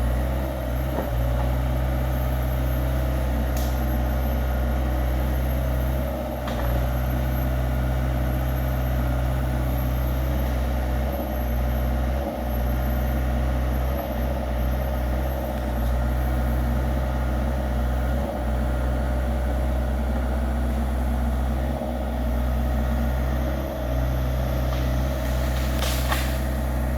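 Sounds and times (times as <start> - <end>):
diesel excavator engine running: 0.0 - 26.9.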